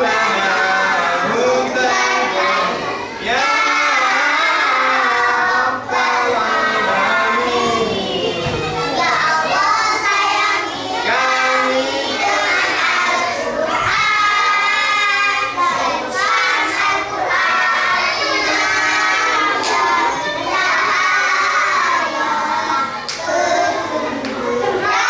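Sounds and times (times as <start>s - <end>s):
children chanting a prayer: 0.0s - 25.0s.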